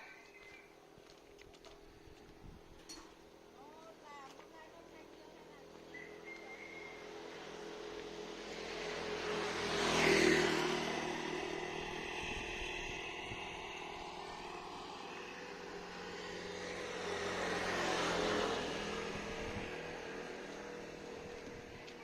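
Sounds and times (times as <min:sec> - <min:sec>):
vehicles passing by: 0:00.0 - 0:22.0.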